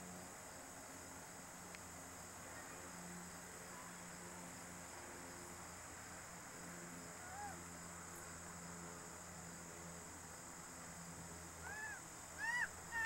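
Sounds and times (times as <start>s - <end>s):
high steady hiss: 0.0s - 13.0s.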